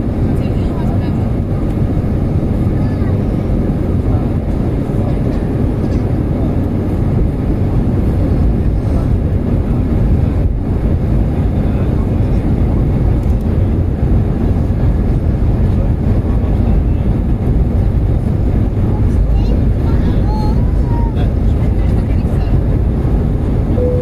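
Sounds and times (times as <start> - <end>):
airplane cabin engine noise: 0.0 - 24.0.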